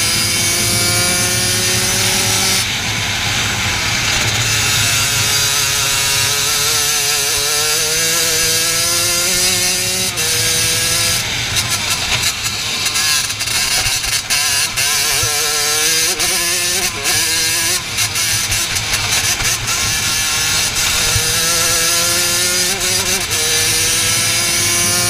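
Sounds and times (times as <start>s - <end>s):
racing kart engine: 0.0s - 25.0s.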